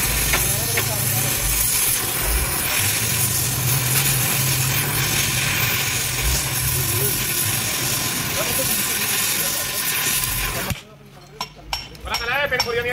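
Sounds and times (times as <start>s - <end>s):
welding torch flame hissing: 0.0s - 10.9s.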